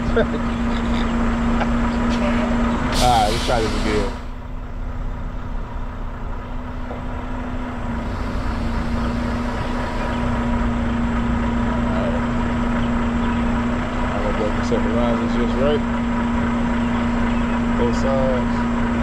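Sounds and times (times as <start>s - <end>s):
truck diesel engine humming: 0.0s - 19.0s.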